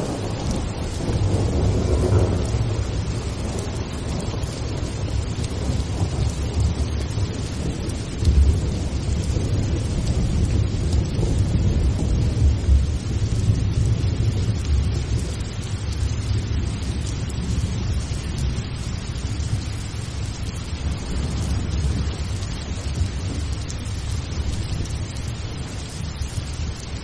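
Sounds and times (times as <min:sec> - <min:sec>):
low rumble of thunder: 0:00.0 - 0:27.0
steady rain: 0:00.0 - 0:27.0.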